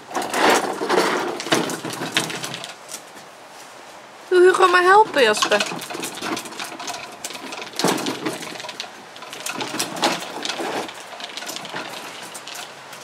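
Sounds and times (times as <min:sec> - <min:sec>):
plastic toy wagon rattling on bricks: 0:00.0 - 0:03.0, 0:04.5 - 0:13.0.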